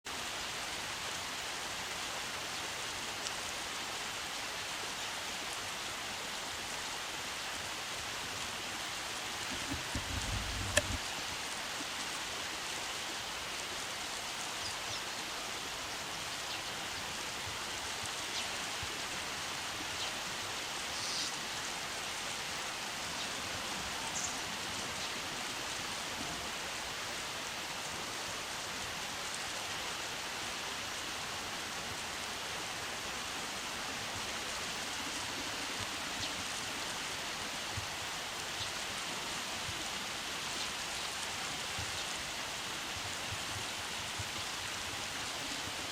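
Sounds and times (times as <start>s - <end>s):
river water rushing: 0.1s - 45.9s.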